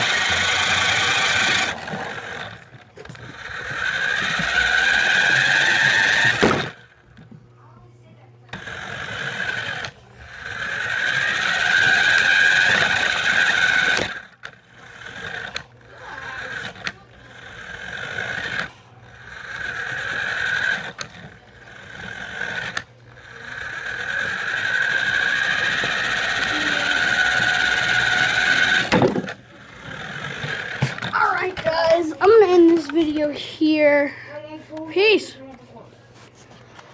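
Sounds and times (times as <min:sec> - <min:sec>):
rc car motor whining: 0:00.0 - 0:07.4, 0:08.4 - 0:34.0.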